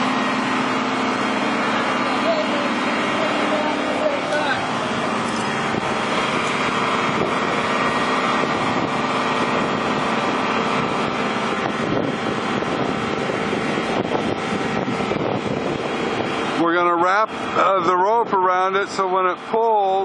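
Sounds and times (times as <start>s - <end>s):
water pumps droning: 0.0s - 20.0s.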